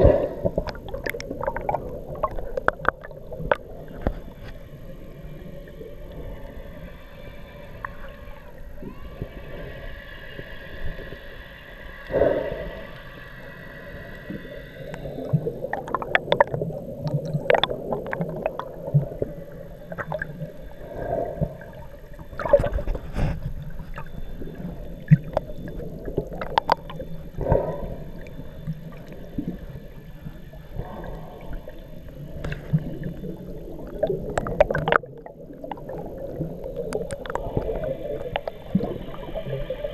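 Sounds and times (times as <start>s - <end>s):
faint humming tone: 0.0s - 39.9s
underwater bubbles gurgling and popping: 0.0s - 39.9s.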